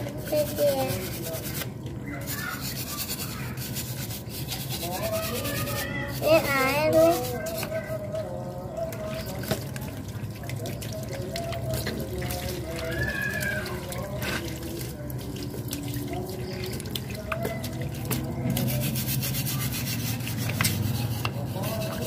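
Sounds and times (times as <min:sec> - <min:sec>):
scrubbing engine parts: 0:00.0 - 0:22.0
water running and splashing: 0:00.0 - 0:22.0.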